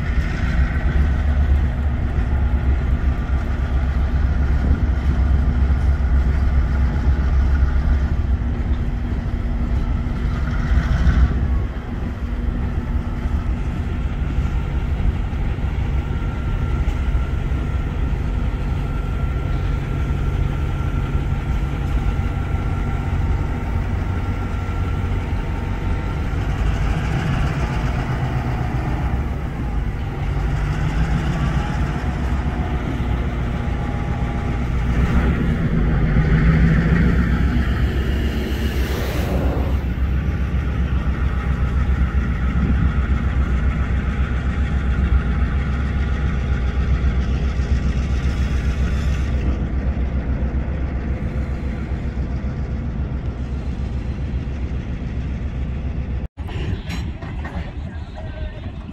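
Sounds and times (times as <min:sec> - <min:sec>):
diesel locomotive engine rumbling: 0:00.0 - 0:58.9.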